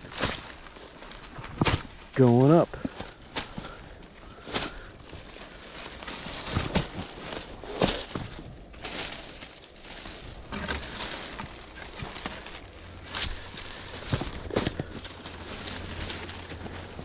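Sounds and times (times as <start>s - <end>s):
crunching footsteps: 0.0s - 17.0s.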